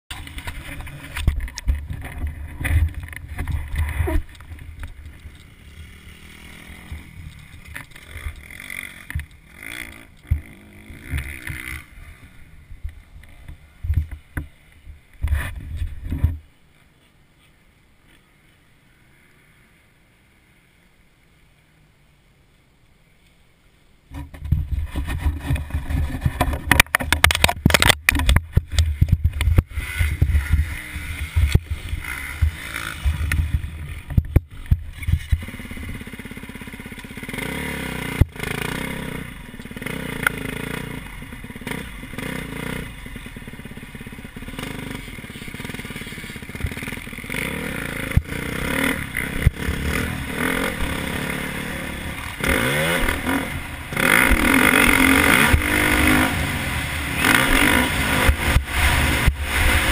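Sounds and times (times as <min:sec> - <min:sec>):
muffled motorbike rumble: 0:00.1 - 0:16.4, 0:24.1 - 0:59.9.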